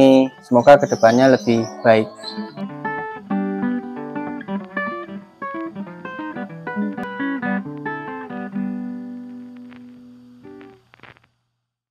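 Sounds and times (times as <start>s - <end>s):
plucked guitar melody: 0.0s - 10.8s.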